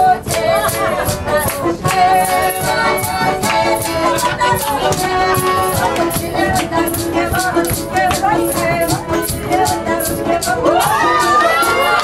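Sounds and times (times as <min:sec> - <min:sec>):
accordion playing chords and melody: 0:00.0 - 0:10.6.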